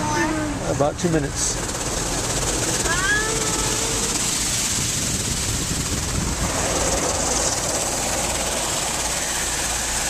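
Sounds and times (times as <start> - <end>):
car wash jets spraying water: 0.0 - 10.0.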